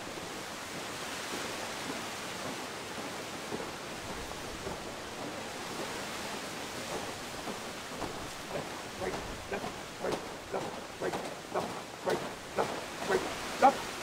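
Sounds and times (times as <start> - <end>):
boots marching on gravel: 0.0 - 14.0
steady rushing hiss: 0.0 - 14.0.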